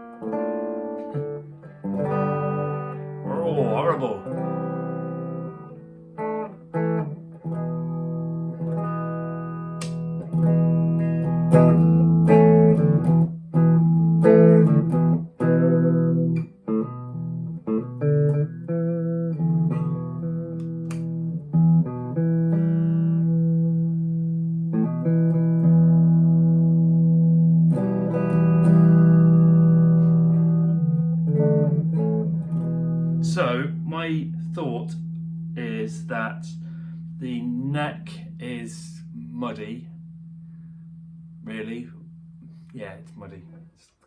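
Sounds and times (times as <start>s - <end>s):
clean electric guitar: 0.0s - 44.0s.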